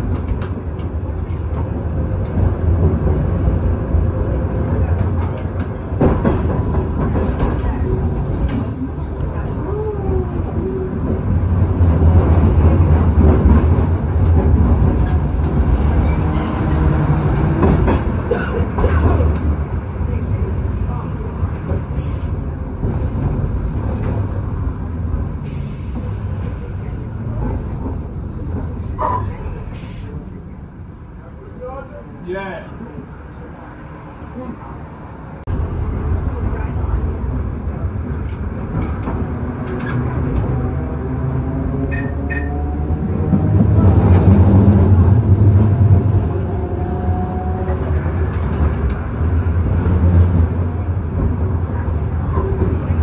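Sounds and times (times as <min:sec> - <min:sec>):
streetcar wheels rumbling: 0:00.0 - 0:53.0.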